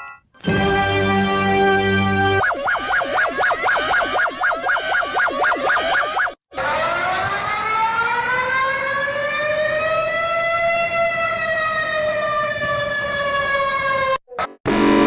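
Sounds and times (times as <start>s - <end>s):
warning siren wailing: 2.2s - 15.0s.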